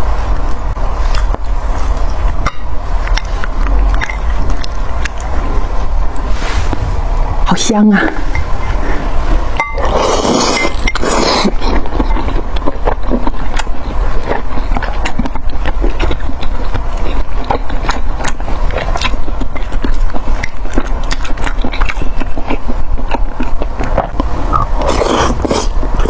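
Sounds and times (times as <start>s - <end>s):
mouth chewing: 0.4s - 6.2s, 8.3s - 26.0s.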